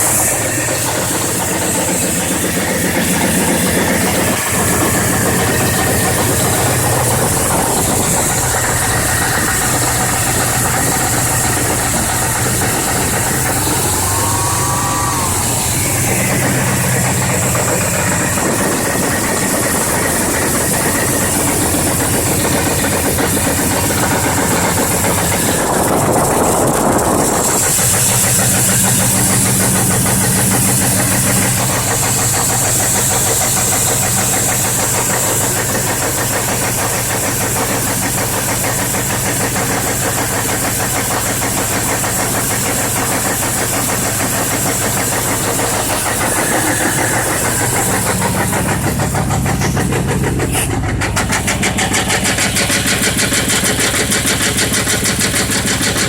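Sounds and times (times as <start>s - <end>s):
rapid engine ticking: 0.0s - 56.0s
truck engine running: 0.0s - 56.0s.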